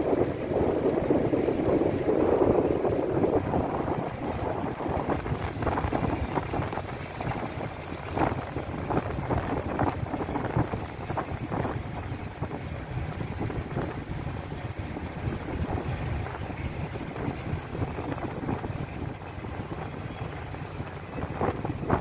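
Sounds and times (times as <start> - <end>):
boat engine rumble: 0.0 - 22.0
wind buffeting microphone: 0.0 - 22.0.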